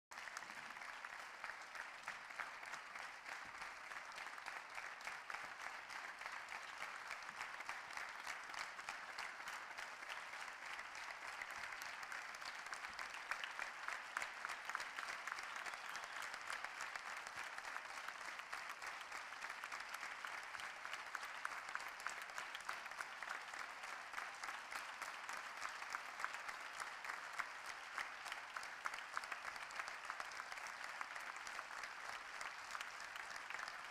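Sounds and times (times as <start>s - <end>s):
audience applauding: 0.1s - 33.9s.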